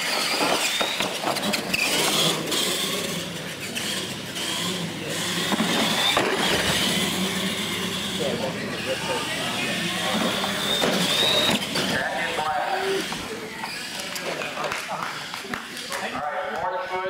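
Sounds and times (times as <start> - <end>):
drivetrains and tyres rattling: 0.0 - 14.6
toy truck motors whining: 0.0 - 15.5.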